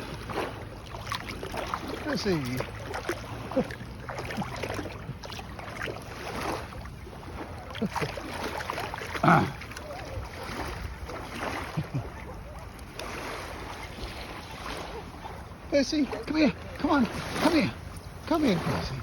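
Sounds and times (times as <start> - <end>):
surf: 0.0 - 19.0.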